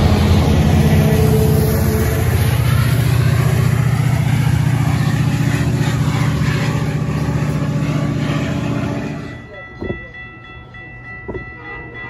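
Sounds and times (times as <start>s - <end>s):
diesel locomotive engine drone: 0.0s - 12.0s
rush of passing train: 0.0s - 12.0s.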